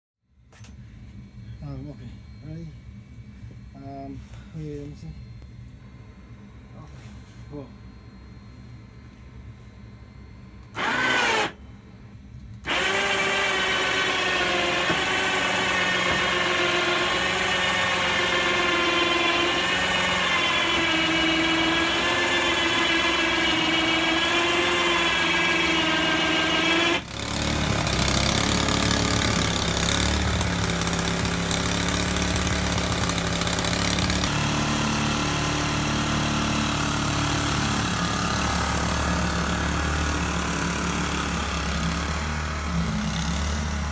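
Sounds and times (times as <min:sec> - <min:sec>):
motor whine: 0:00.4 - 0:43.9.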